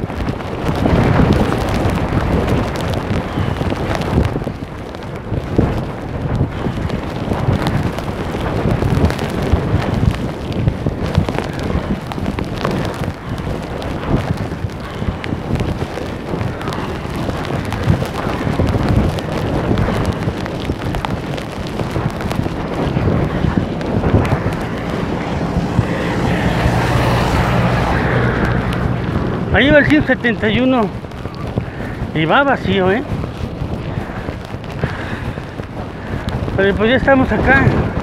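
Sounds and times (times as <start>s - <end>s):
heavy rain: 0.0s - 38.0s
wind buffeting microphone: 0.0s - 38.0s.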